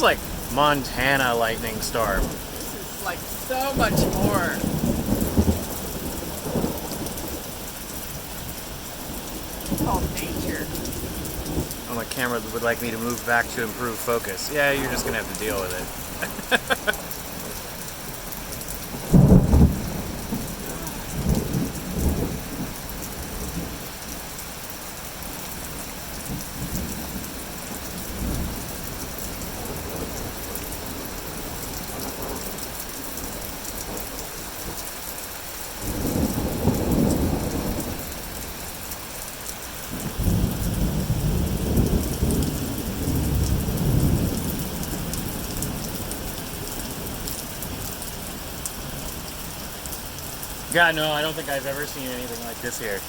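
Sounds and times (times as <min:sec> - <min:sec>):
thunder crack and rumbling: 0:00.0 - 0:24.2, 0:25.1 - 0:34.8, 0:35.8 - 0:53.0
heavy rain falling: 0:00.0 - 0:53.0.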